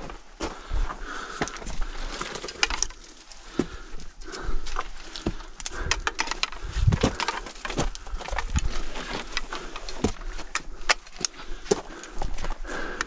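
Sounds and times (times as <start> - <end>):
footsteps crunching on scree: 0.0 - 13.0.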